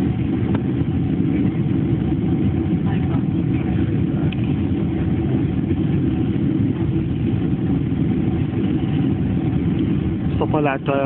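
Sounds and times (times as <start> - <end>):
jet engines and airflow rush: 0.0 - 11.0.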